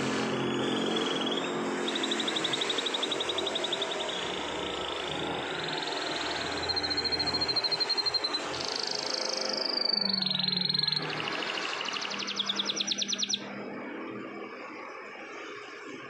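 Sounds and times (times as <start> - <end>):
canary singing rolling trills: 0.0 - 13.8.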